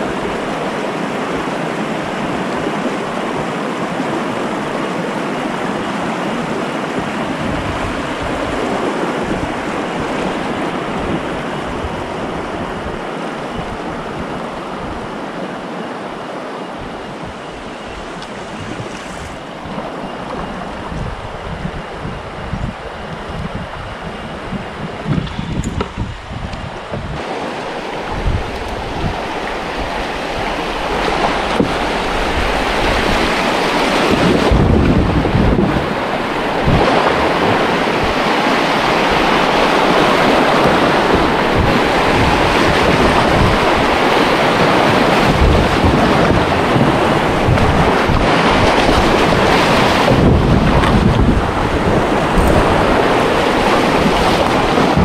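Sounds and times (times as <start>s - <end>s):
river rushing through rapids: 0.0s - 55.0s
wind buffeting microphone: 0.0s - 55.0s.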